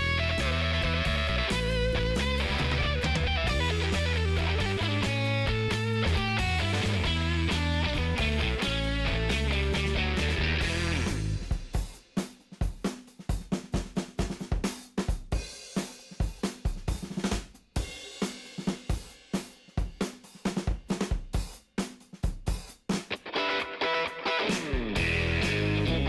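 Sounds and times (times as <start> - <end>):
rock drum beat: 0.0 - 26.0.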